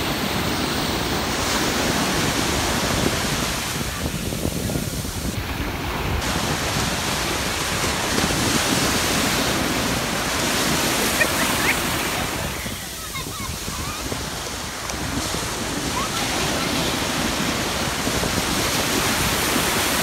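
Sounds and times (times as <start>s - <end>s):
ocean surf breaking: 0.0s - 20.0s
wind rumbling on microphone: 0.0s - 20.0s.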